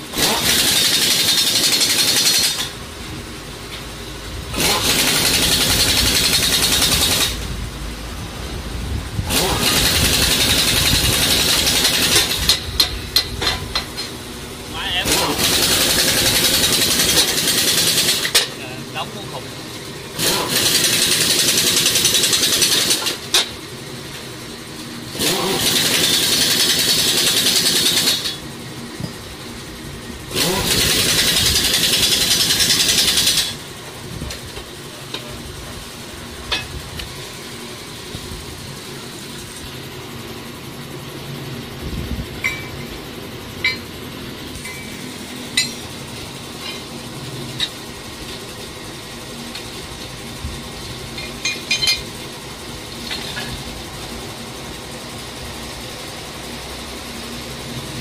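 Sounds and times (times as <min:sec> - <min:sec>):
hydraulic press running: 0:00.0 - 0:08.4, 0:09.1 - 0:18.6, 0:19.8 - 0:24.3, 0:25.0 - 0:56.6.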